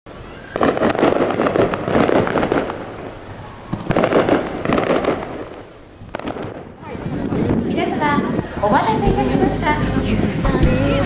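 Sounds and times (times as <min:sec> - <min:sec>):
fireworks crackling: 0:00.1 - 0:09.9.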